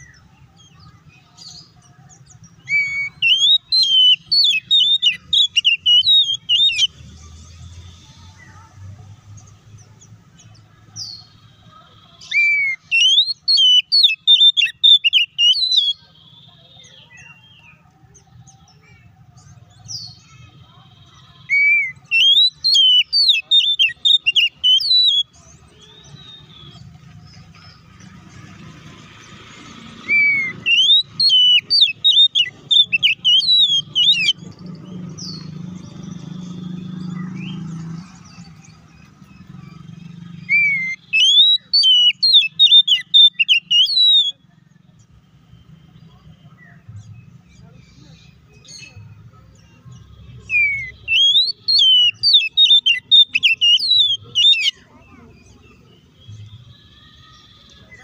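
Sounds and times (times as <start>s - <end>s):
bird singing whistled notes: 0.0s - 7.0s, 10.4s - 28.0s, 29.2s - 58.0s.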